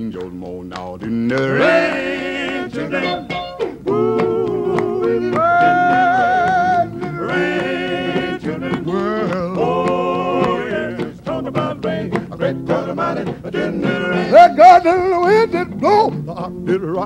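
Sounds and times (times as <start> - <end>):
male vocal group singing harmony: 1.0 - 17.0.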